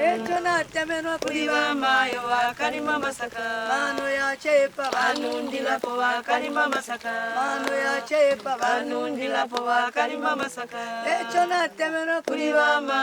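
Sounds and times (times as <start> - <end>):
voices singing chant-like song: 0.0 - 13.0.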